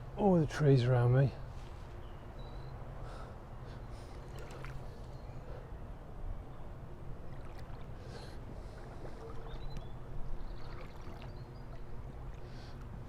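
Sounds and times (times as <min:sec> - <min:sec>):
low rumble with faint hiss: 0:00.0 - 0:13.0.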